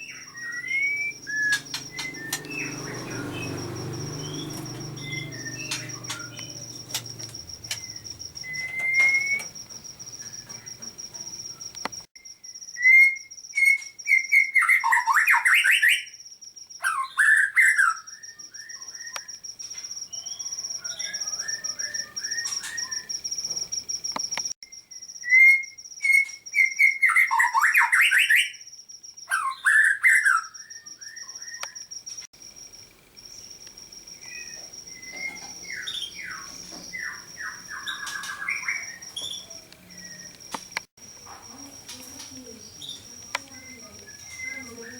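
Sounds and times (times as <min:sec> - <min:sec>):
songbird singing: 0:00.0 - 0:32.3, 0:33.0 - 0:44.9.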